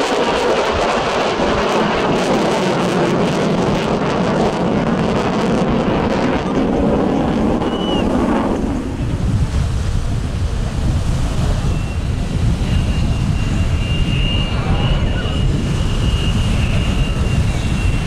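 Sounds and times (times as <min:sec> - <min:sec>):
fighter jet roar: 0:00.0 - 0:18.0.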